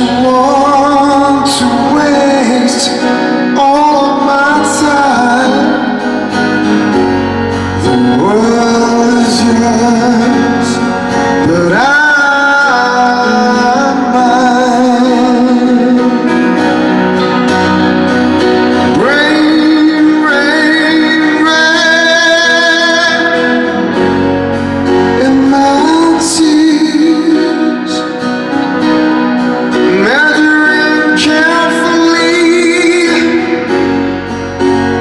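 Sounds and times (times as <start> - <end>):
band with guitar: 0.0 - 35.0
person singing a slow ballad: 0.0 - 35.0.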